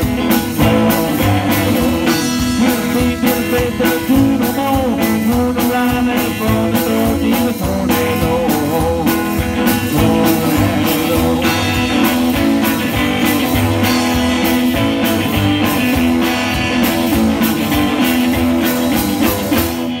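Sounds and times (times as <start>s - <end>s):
rockabilly band playing: 0.0s - 20.0s.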